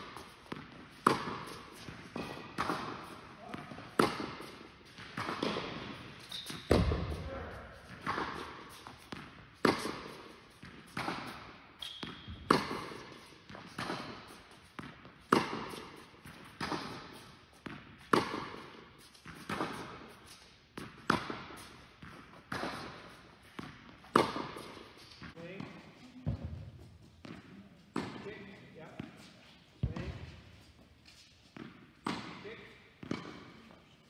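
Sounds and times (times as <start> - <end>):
tennis ball bouncing: 0.0 - 7.2, 7.8 - 33.8
racquets striking tennis ball: 0.0 - 33.8.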